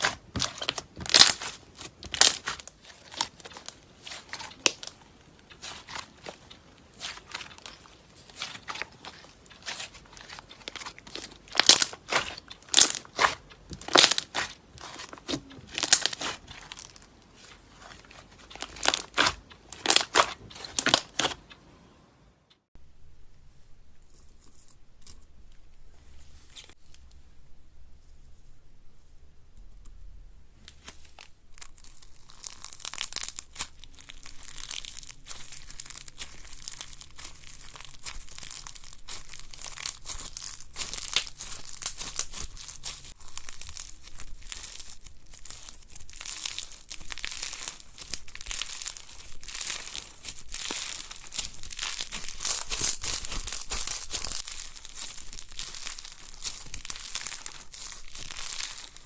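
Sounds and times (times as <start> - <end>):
slime crackling and popping: 0.0 - 21.6, 30.7 - 59.0.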